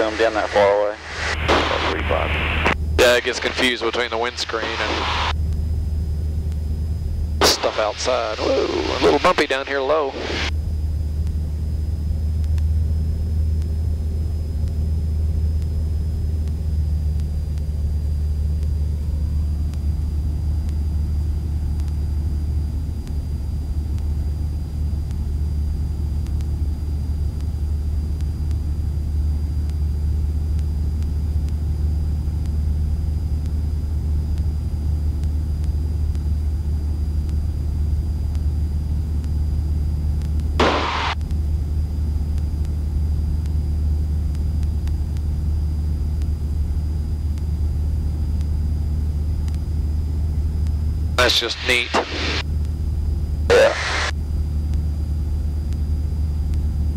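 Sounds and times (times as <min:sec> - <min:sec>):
faint high whine: 0:00.0 - 0:30.9, 0:32.4 - 0:56.9
airplane engine and propeller drone: 0:00.0 - 0:56.9.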